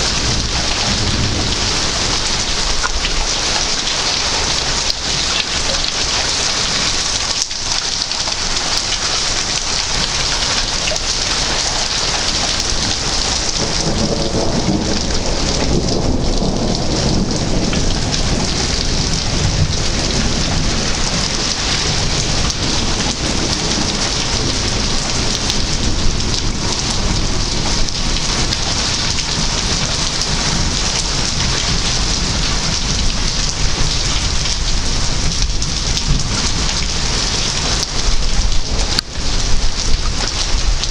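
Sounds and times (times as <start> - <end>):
heavy rain hissing: 0.0 - 40.9
thunder rumbling: 0.0 - 40.9.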